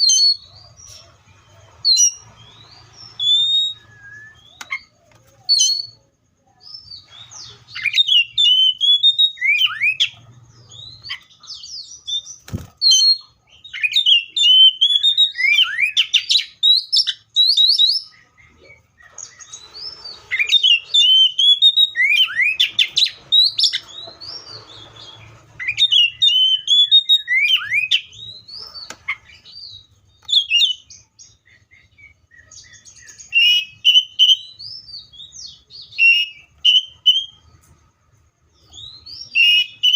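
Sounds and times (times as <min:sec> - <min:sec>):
bird singing whistles and rattles: 0:01.8 - 0:06.0, 0:07.4 - 0:18.1, 0:19.1 - 0:31.0, 0:31.8 - 0:37.5, 0:38.7 - 0:39.9.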